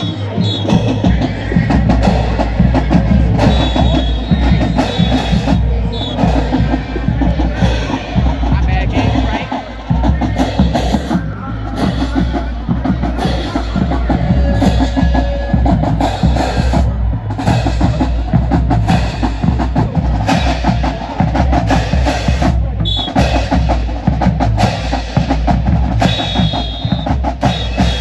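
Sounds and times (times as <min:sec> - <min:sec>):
drumline playing cadence: 0:00.0 - 0:28.0
bass drum pulse: 0:00.7 - 0:24.8.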